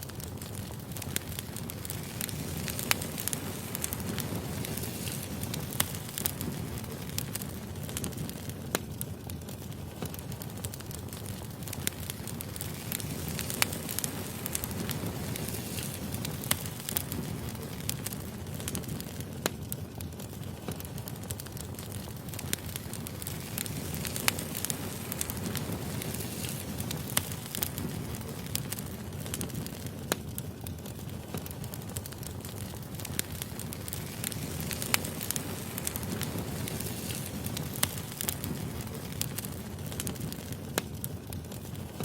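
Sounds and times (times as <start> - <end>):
logs popping and crackling: 0.0 - 42.0
rush of flames: 0.0 - 42.0.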